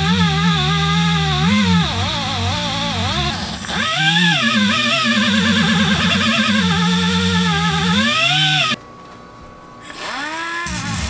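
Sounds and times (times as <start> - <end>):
pneumatic air drill whining: 0.0 - 8.8, 9.8 - 11.0.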